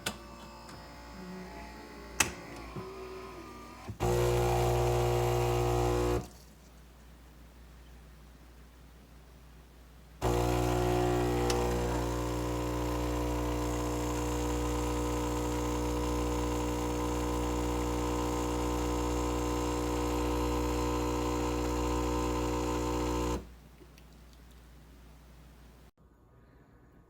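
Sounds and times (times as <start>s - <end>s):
electrical hum: 0.0s - 6.3s, 10.2s - 25.9s.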